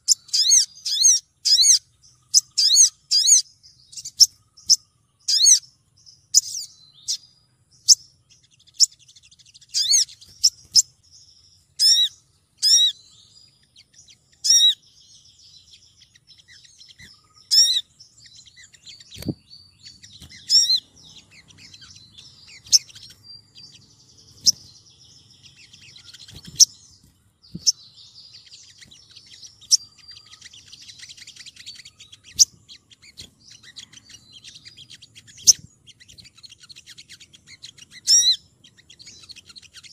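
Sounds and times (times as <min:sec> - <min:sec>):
bird high chirps: 0:00.0 - 0:39.9
soft bird twittering: 0:00.0 - 0:39.9.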